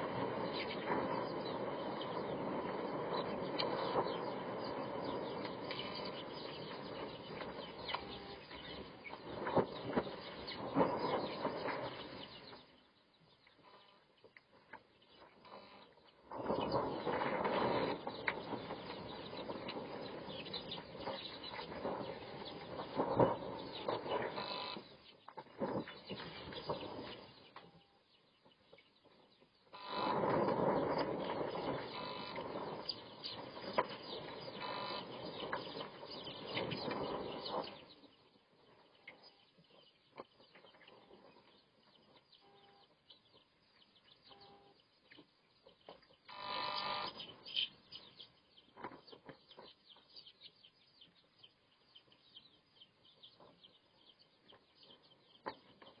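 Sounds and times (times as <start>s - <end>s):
chickens clucking and chirping: 0.0s - 56.0s.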